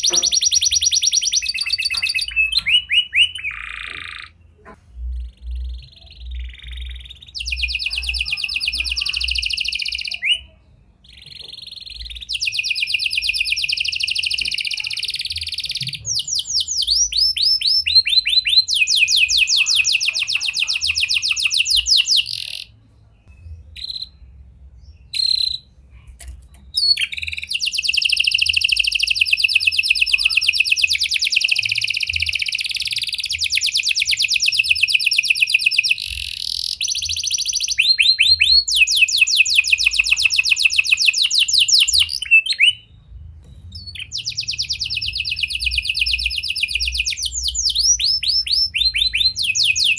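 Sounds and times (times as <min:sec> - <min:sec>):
canary singing fast trills: 0:00.0 - 0:49.9.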